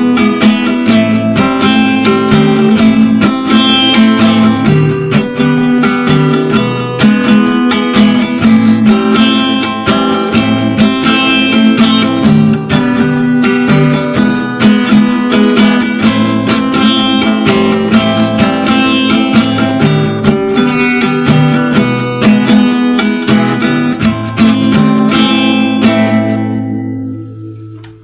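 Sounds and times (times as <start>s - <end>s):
strummed acoustic guitar music: 0.0s - 28.0s.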